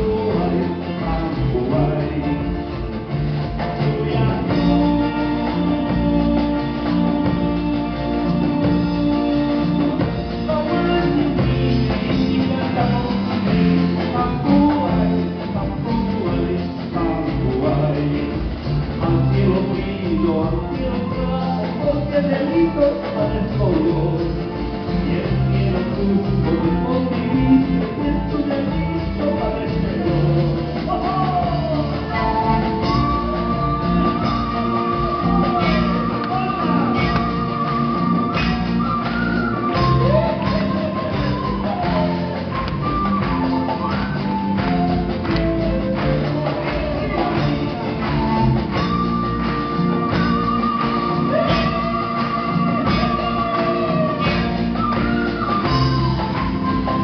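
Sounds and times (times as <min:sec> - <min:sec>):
drum kit: 0:00.0 - 0:57.0
guitars: 0:00.0 - 0:57.0
person singing: 0:00.0 - 0:57.0.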